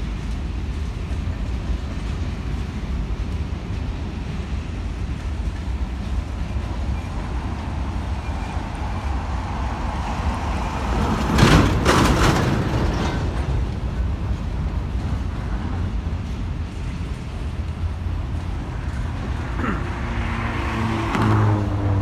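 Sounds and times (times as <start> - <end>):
freight train cars rolling: 0.0 - 22.0.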